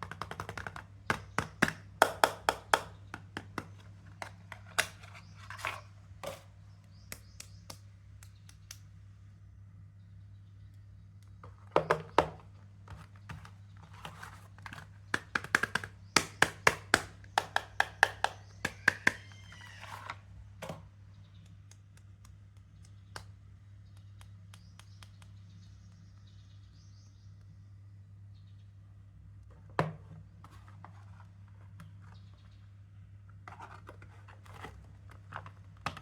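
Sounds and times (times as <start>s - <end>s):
steady low hum: 0.8s - 18.7s, 20.2s - 36.0s.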